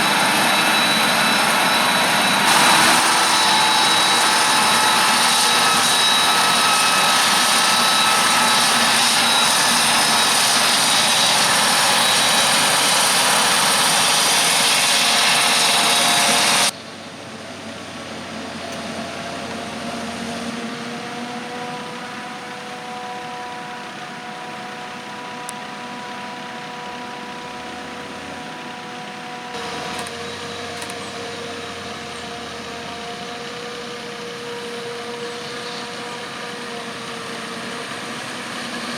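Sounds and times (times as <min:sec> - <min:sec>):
harvester roaring with high whine: 0:00.0 - 0:38.9
tractor engine humming: 0:00.0 - 0:38.9.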